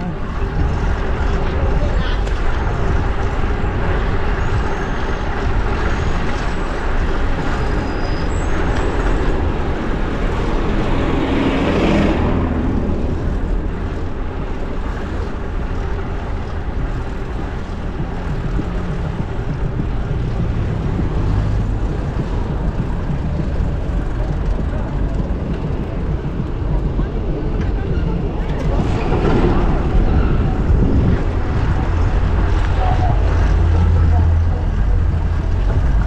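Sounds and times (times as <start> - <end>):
road traffic: 0.0 - 36.0
wind rushing over microphone: 0.0 - 36.0.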